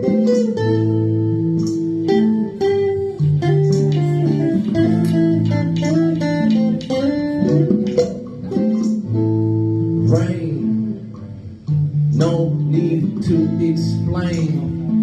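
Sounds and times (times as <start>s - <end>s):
guitar melody: 0.0s - 15.0s
low bass notes: 0.0s - 15.0s.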